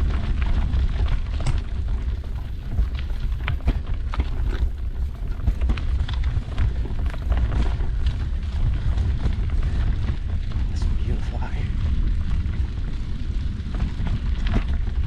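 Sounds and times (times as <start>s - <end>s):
mountain bike clicks and rattles: 0.0s - 15.0s
wind buffeting microphone: 0.0s - 15.0s.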